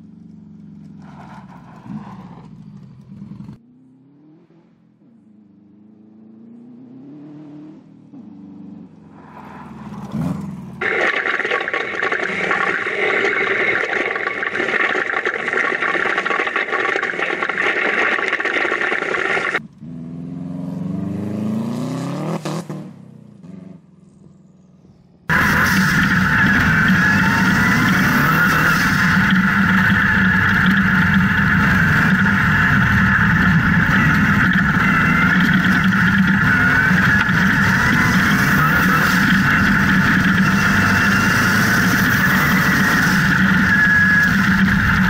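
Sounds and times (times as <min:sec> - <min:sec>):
buggy engine accelerating: 0:00.0 - 0:45.0.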